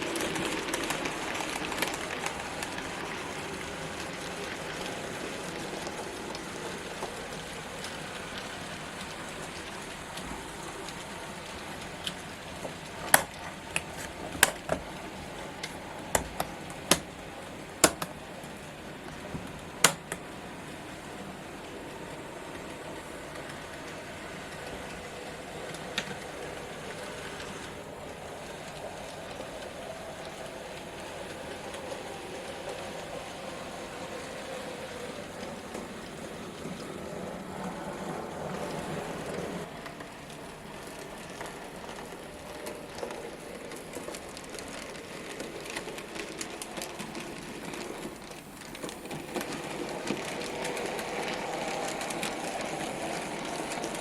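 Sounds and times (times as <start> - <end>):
model train motor whir: 0.0 - 54.0
wheels clicking over rail joints: 0.0 - 54.0.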